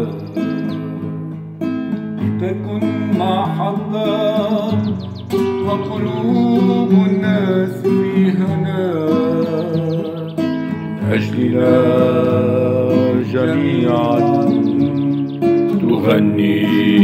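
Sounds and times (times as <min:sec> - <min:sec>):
man singing: 0:00.0 - 0:01.2, 0:02.2 - 0:17.0
acoustic guitar: 0:00.0 - 0:17.0.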